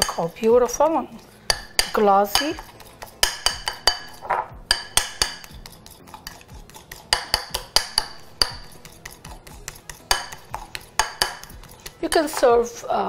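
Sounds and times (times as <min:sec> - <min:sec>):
whisk clinking against a bowl: 0:00.0 - 0:00.5, 0:01.4 - 0:12.8.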